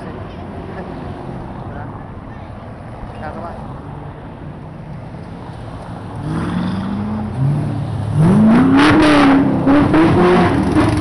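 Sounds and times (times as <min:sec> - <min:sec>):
vehicles driving past: 0:00.0 - 0:11.0.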